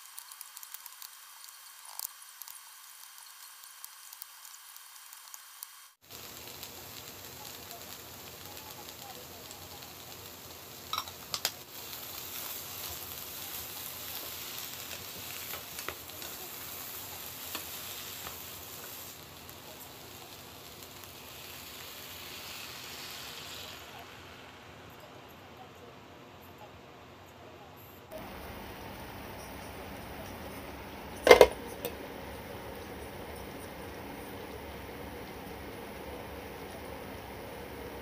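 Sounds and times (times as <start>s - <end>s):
vegetables sizzling in a frying pan: 0.0s - 25.2s, 28.1s - 38.0s.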